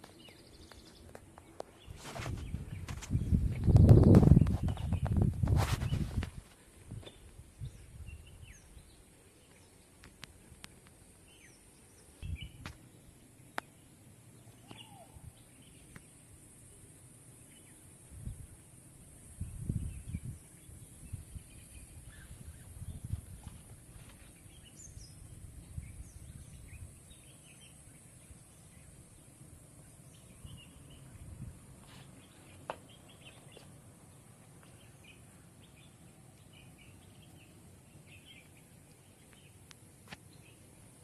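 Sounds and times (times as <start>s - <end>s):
birds chirping: 0.0s - 41.0s
steady high hiss: 0.0s - 41.0s.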